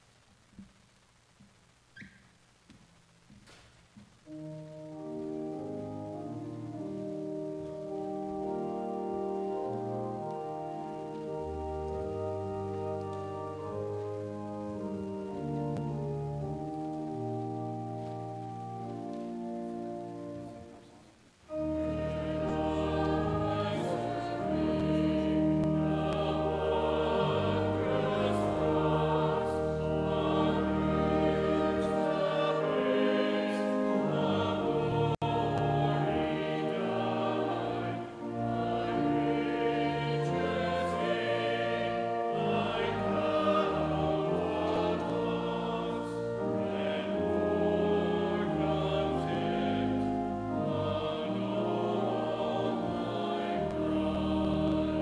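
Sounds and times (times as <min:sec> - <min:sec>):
choir singing: 0:04.3 - 0:20.8, 0:21.5 - 0:55.0
pipe organ chords: 0:04.3 - 0:55.0.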